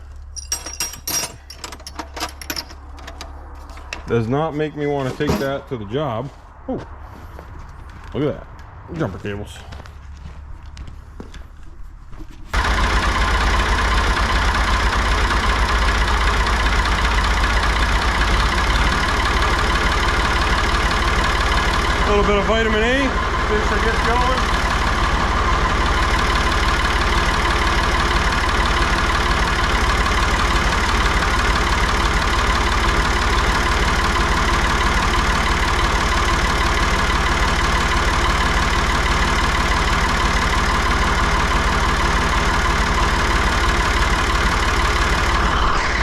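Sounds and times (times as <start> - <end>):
vehicle engine idling: 1.3 - 46.0.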